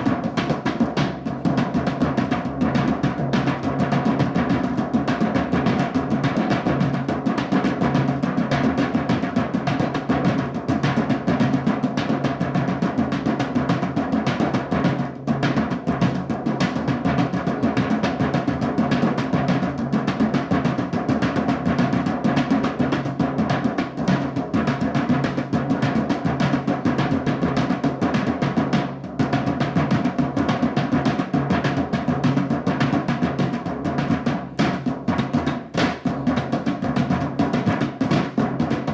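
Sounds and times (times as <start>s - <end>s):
fast drumming: 0.0s - 38.9s.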